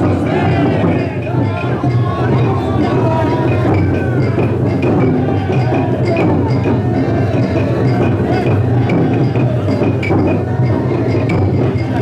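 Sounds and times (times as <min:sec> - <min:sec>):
taiko drum beating: 0:00.0 - 0:12.0.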